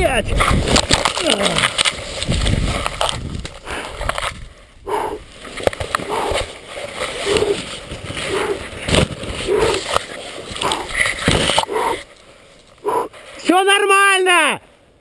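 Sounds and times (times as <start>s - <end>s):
rustling through brush and grass: 0.1s - 13.7s.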